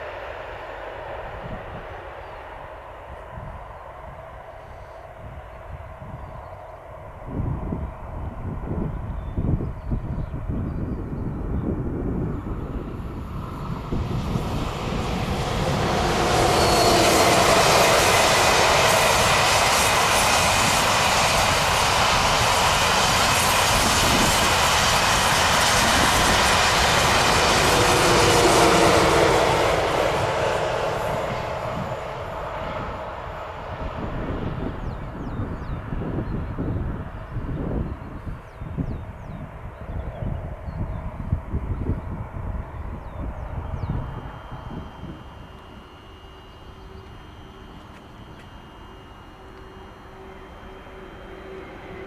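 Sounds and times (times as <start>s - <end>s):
high-speed train passing: 0.0s - 52.0s.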